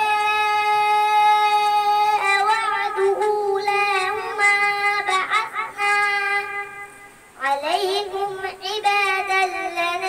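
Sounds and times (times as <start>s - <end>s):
child chanting melodically: 0.0s - 10.0s.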